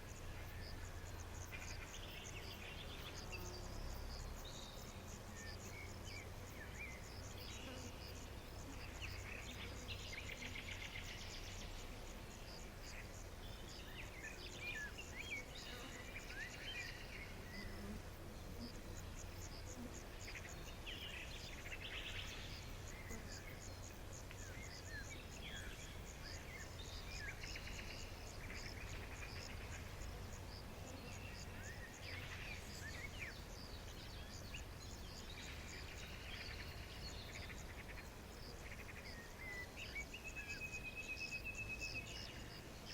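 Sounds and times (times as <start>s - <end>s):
crickets chirping: 0.0s - 42.9s.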